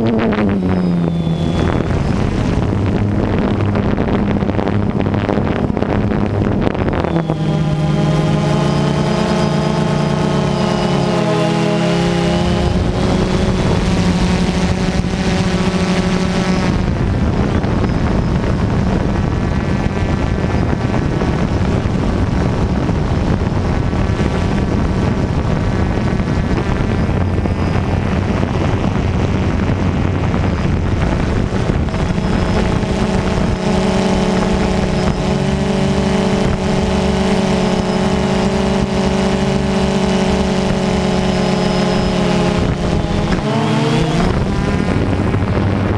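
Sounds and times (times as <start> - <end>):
drone motors buzzing: 0.0 - 45.9.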